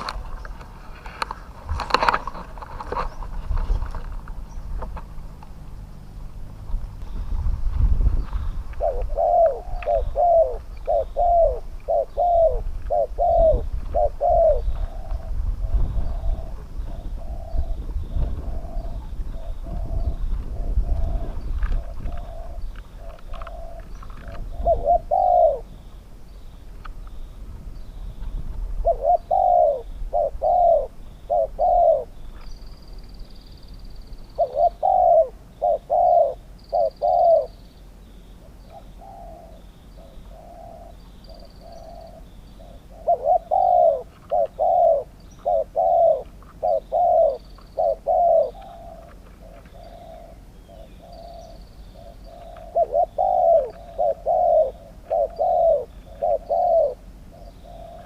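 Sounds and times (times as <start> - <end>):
small birds chirping: 0.0 - 58.0
doves cooing: 8.1 - 58.0.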